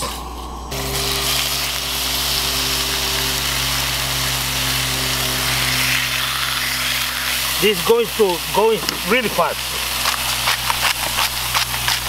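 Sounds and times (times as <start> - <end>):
steady low hum: 0.0 - 12.0
fish sizzling in a skillet: 0.7 - 12.0.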